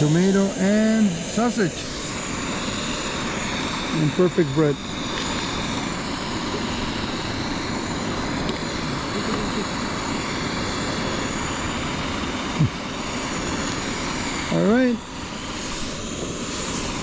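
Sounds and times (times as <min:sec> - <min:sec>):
camp stove burner hissing: 0:00.0 - 0:17.0.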